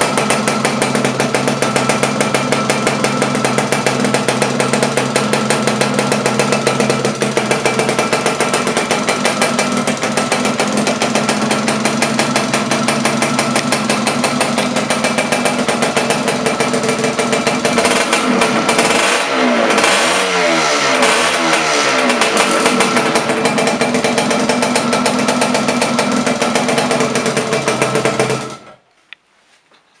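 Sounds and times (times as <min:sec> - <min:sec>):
motorcycle engine revving: 0:00.0 - 0:28.8.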